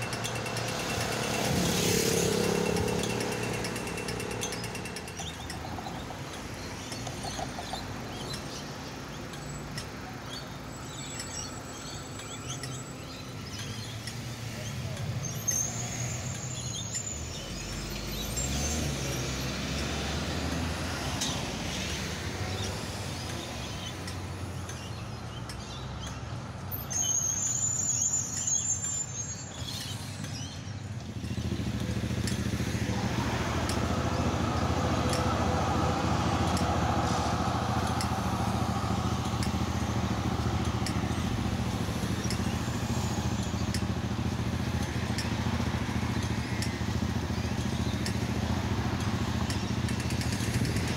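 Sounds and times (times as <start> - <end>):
tram passing with high whine: 0.0 - 25.3, 26.4 - 50.9
street traffic: 0.0 - 50.9.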